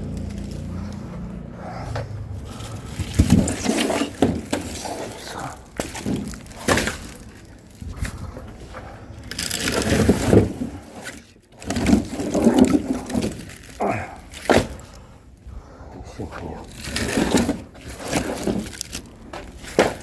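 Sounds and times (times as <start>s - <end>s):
firewood logs knocking together: 1.9s - 15.1s, 16.7s - 20.0s.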